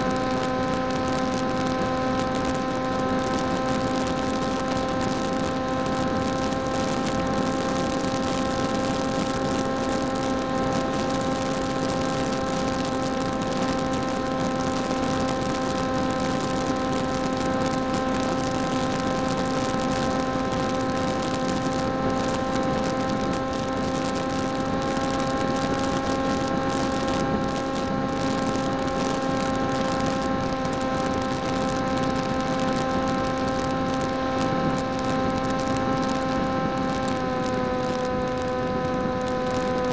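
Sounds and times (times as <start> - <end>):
electric motor and propeller whining: 0.0 - 39.9
wind rush: 0.2 - 39.9.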